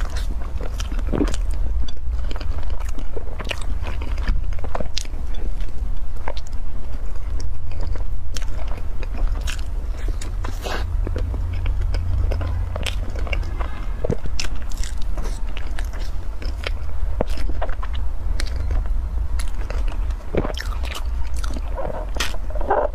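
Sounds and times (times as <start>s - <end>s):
chewing bread: 0.0s - 22.9s
steady low hum: 0.0s - 22.9s.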